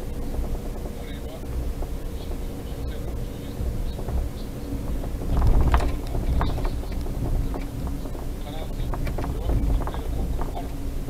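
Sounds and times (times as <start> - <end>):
rattles and knocks: 0.0 - 11.0
tyre and engine rumble: 0.0 - 11.0.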